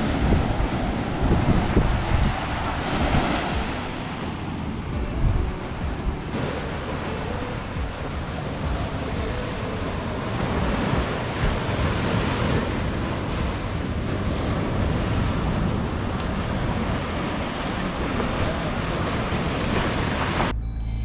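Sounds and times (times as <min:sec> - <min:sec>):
ocean surf breaking: 0:00.0 - 0:20.5
wind on the microphone: 0:00.0 - 0:20.5.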